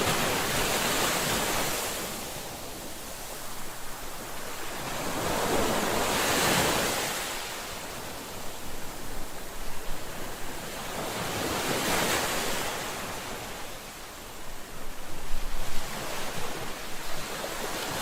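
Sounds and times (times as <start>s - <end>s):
ocean waves breaking on shore: 0.0s - 18.0s.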